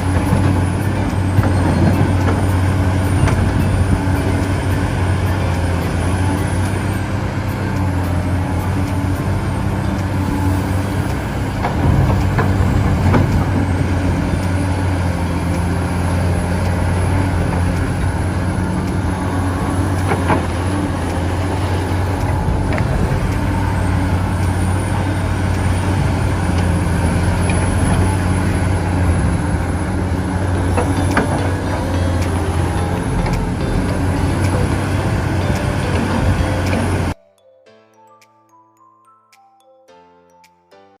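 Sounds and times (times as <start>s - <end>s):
heavy machinery engine drone: 0.0s - 37.2s.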